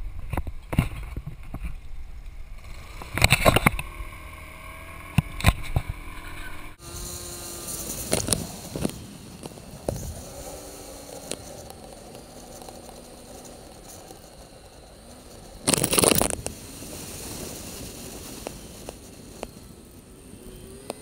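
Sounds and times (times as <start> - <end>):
wind and road noise: 0.0 - 21.0
scooter engine running: 2.3 - 21.0.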